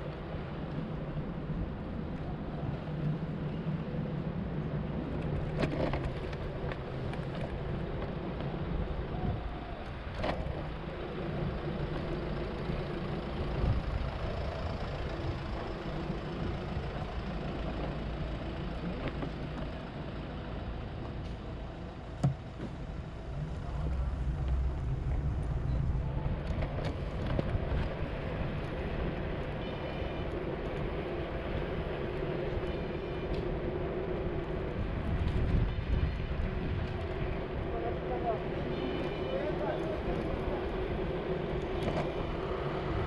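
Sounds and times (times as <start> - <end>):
low vehicle rumble: 0.0 - 43.0.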